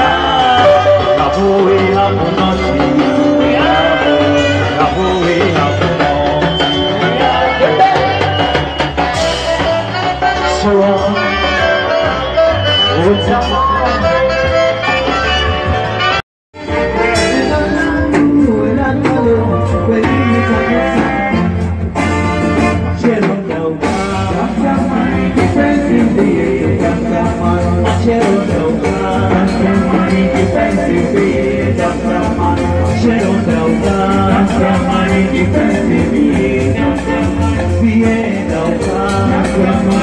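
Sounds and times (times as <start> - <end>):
drums: 0.0 - 40.0
live band playing dance music: 0.0 - 40.0
saxophone: 0.0 - 40.0.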